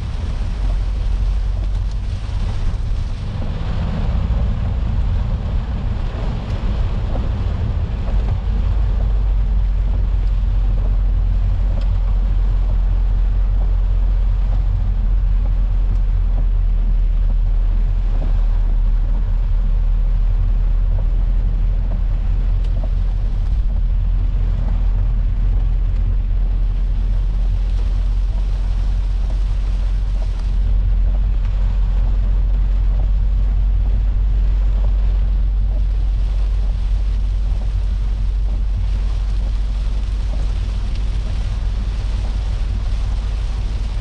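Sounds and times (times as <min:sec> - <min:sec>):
car engine rumble from inside: 0:00.0 - 0:44.0
heavy rain on car: 0:00.0 - 0:44.0
tyres on wet road: 0:00.0 - 0:44.0.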